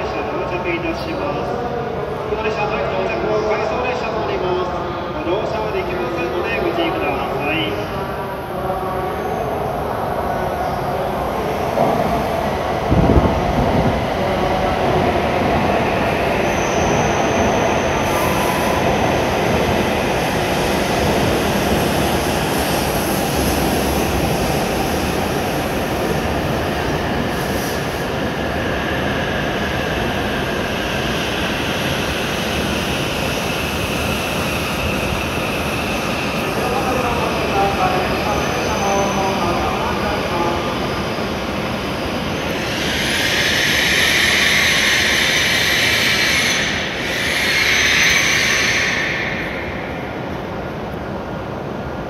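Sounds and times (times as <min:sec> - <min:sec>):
train cars rushing past: 0:07.1 - 0:52.0.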